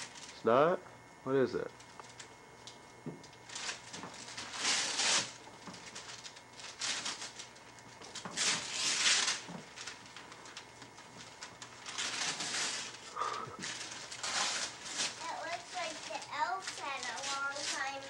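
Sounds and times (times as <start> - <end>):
wrapping paper tearing and crinkling: 0.0 - 0.4, 3.2 - 18.0.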